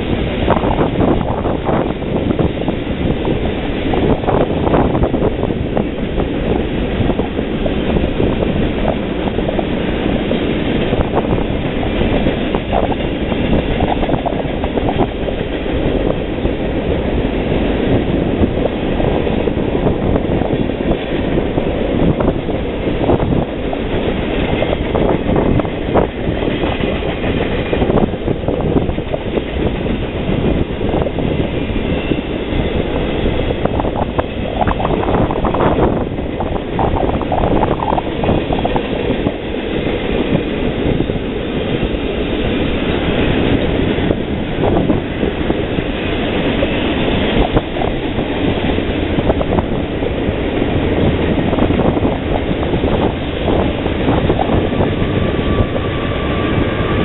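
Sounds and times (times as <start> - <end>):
train wheels rumbling on rails: 0.0 - 57.0
wheels clicking over rail joints: 0.0 - 57.0.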